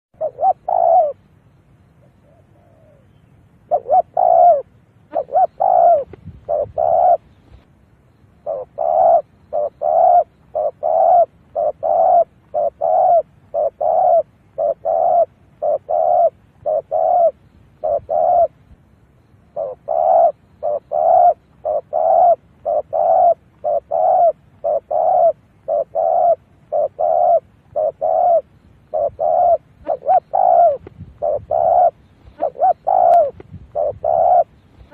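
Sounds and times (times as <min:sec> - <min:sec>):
dove cooing: 0:00.2 - 0:01.3, 0:01.9 - 0:07.6, 0:08.4 - 0:18.8, 0:19.4 - 0:34.9.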